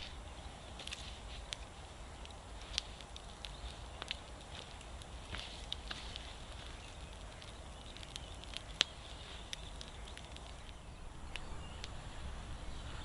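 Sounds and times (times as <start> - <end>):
sharp snap of fire: 0.0 - 12.3
campfire crackling and popping: 0.0 - 13.0.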